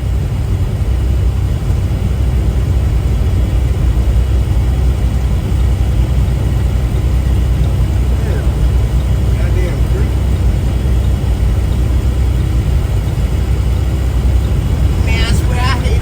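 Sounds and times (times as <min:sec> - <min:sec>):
road noise: 0:00.0 - 0:16.0
truck engine drone: 0:00.0 - 0:16.0.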